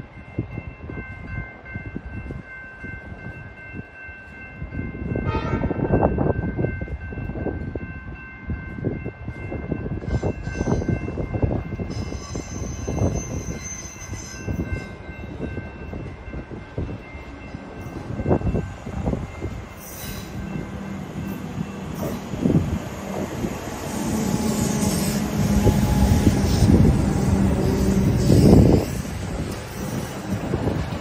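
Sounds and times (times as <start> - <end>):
train wheels and motors rumbling: 6.0 - 31.0.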